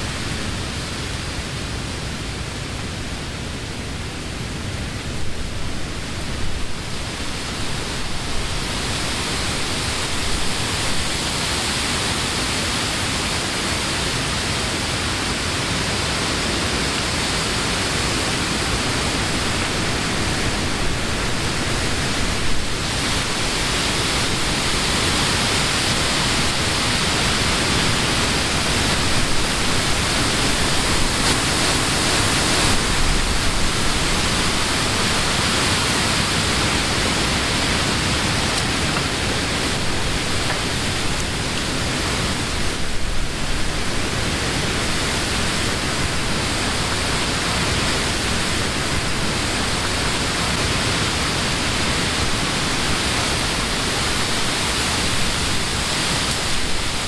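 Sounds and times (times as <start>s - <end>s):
wind through tree leaves: 0.0s - 57.0s.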